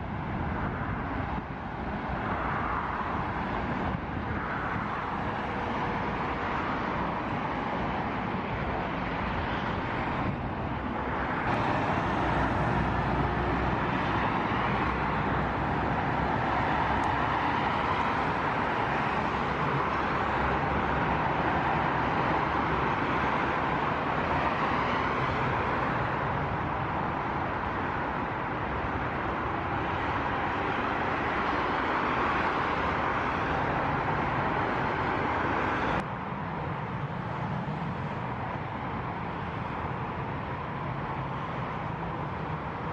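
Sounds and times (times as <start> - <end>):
jet airliner engines running: 0.0 - 42.9.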